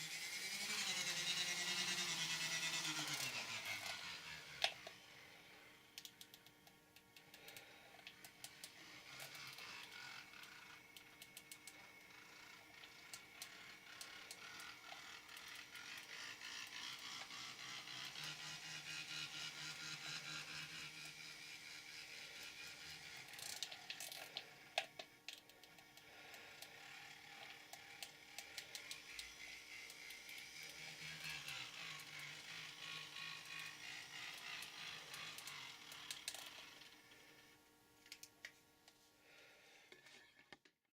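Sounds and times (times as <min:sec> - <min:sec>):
model train motor whirring: 0:00.0 - 0:38.3.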